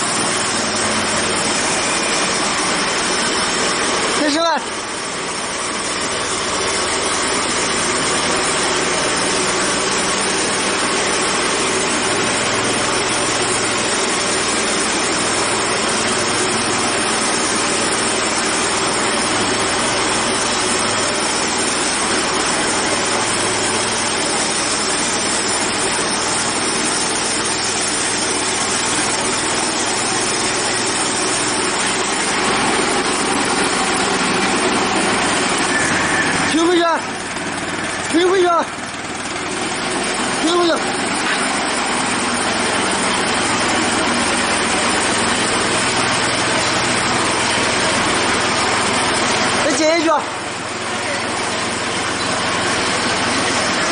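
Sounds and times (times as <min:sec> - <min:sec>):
band sawmill running: 0:00.0 - 0:53.9.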